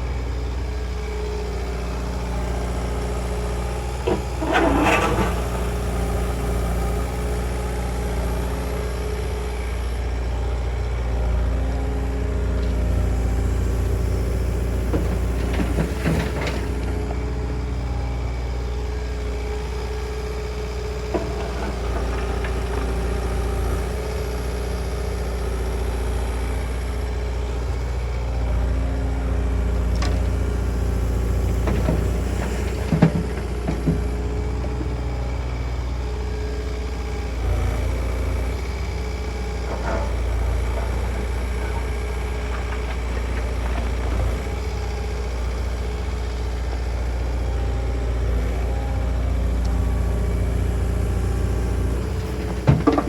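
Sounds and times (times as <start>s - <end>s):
construction machine engine running: 0.0s - 53.0s.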